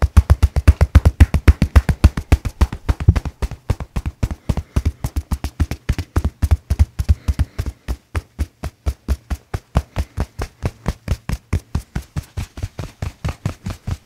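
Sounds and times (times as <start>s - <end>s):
hands slapping a back: 0.0s - 14.0s.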